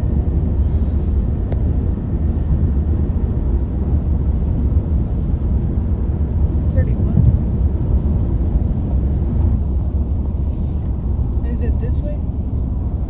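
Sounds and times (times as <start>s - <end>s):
road and tyre noise in car: 0.0s - 13.0s.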